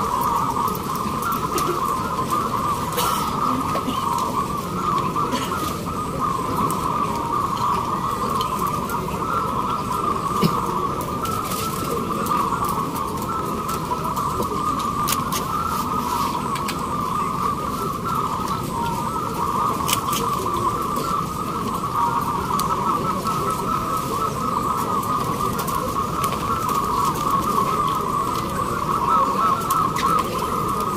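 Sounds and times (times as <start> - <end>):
doves cooing: 0.0 - 30.9
low background noise: 0.0 - 30.9.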